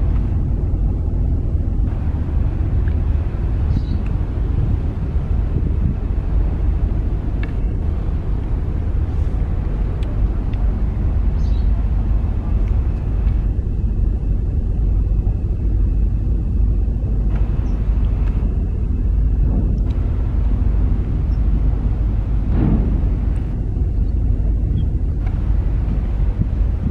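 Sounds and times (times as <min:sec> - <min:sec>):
ferry engine low rumble: 0:00.0 - 0:26.9
wind buffeting microphone: 0:00.0 - 0:26.9.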